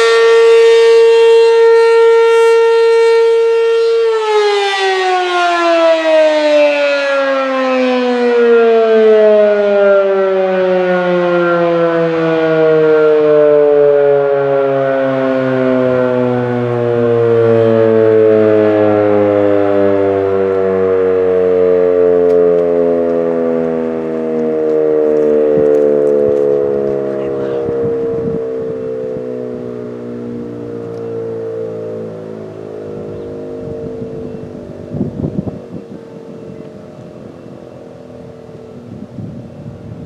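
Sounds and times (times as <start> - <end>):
mechanical siren winding down: 0.0 - 40.0.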